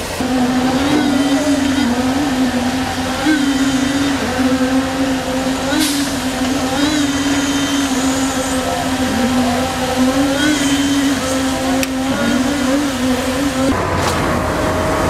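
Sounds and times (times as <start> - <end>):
faint high whines: 0.0 - 13.8
machine motor drone: 0.0 - 15.0.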